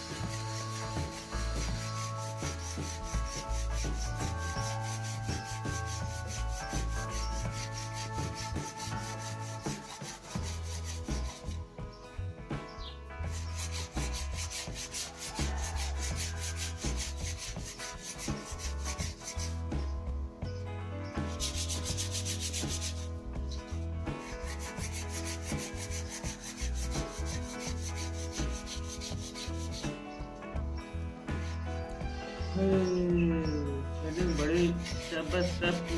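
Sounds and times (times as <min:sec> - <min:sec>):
sandpaper rubbing on wood: 0:00.0 - 0:11.6, 0:13.2 - 0:19.9, 0:21.2 - 0:30.3, 0:31.4 - 0:31.6, 0:34.0 - 0:35.9.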